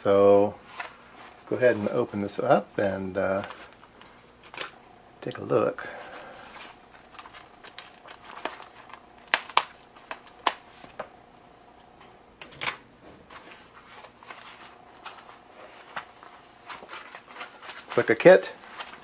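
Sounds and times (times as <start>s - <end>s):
foam sheet crinkling: 0.4s - 4.8s, 5.8s - 11.0s, 13.3s - 19.0s.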